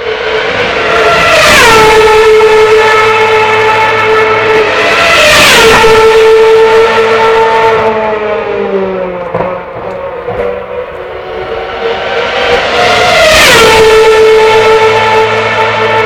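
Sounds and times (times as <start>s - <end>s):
racing car engines at high revs: 0.0s - 16.0s
racing car passing by: 0.0s - 16.0s.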